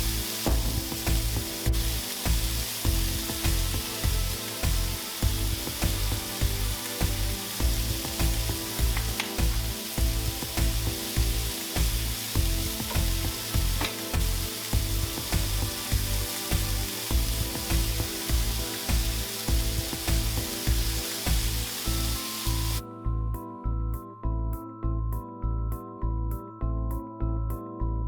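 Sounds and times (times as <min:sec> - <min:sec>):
food sizzling on a griddle: 0:00.0 - 0:22.8
background music with bass beat: 0:00.0 - 0:28.0.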